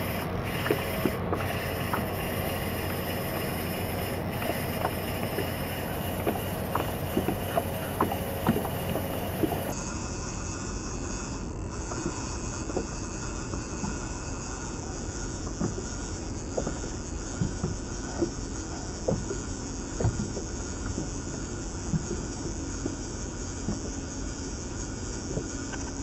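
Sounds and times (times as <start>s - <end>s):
boat engine and water drone: 0.0s - 26.0s.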